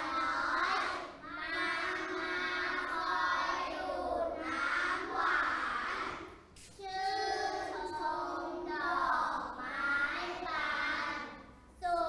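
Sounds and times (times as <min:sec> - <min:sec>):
children chanting verse together: 0:00.0 - 0:12.0.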